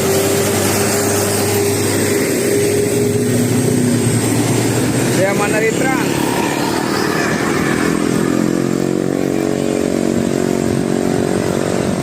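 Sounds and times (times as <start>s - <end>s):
traffic noise: 0.0s - 12.0s
vehicle engine running: 0.0s - 12.0s.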